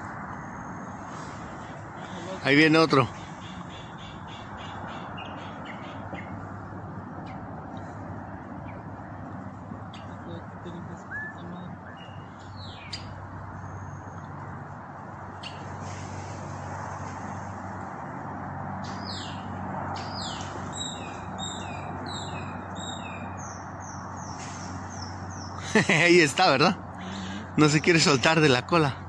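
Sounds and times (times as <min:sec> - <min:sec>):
low outdoor background hum: 0:00.0 - 0:29.0.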